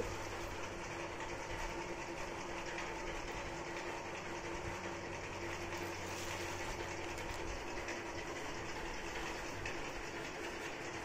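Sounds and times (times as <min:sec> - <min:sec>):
mechanical hum with hiss: 0:00.0 - 0:11.0.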